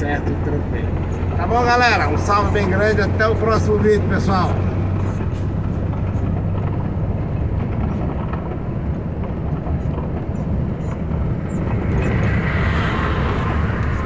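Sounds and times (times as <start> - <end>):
engine and tyres rumbling: 0.0 - 14.0.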